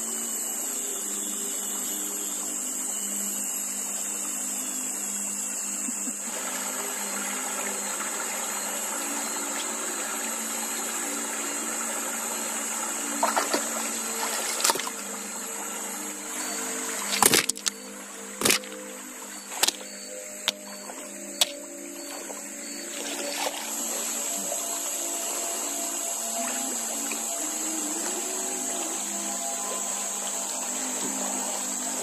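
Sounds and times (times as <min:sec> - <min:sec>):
high-pitched hiss: 0:00.0 - 0:32.0
river water trickling: 0:00.1 - 0:32.0.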